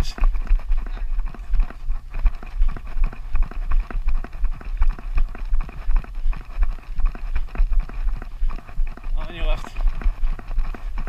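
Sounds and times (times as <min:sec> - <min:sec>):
jogging footsteps: 0:00.0 - 0:11.0.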